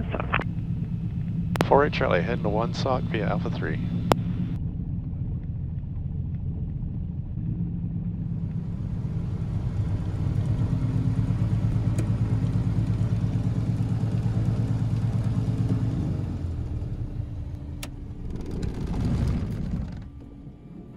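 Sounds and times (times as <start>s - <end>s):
piston aircraft engine running: 0.0s - 20.9s.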